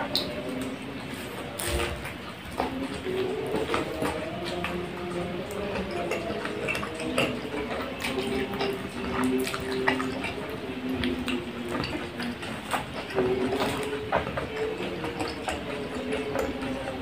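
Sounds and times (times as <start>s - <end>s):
chewing bread: 0.0s - 17.0s.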